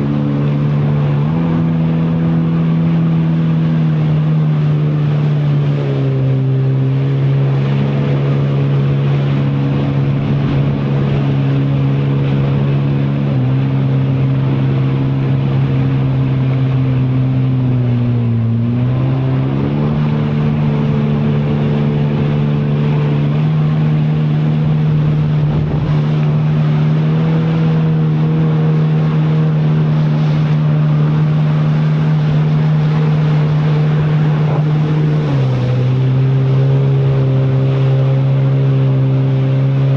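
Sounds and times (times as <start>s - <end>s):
jet ski engine revving: 0.0s - 39.9s.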